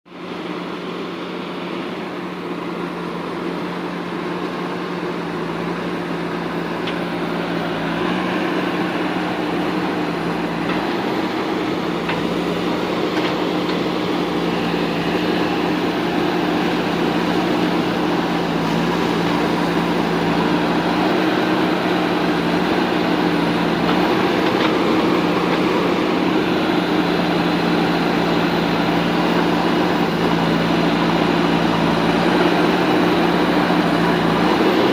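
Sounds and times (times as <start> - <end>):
diesel engine humming: 0.2 - 34.9.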